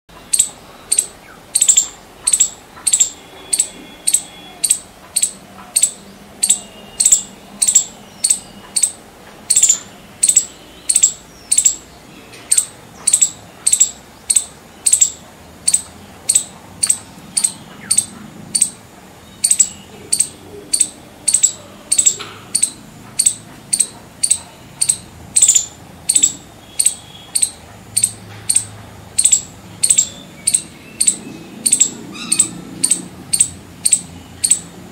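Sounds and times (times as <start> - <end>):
squirrel chirping: 0.2 - 34.9.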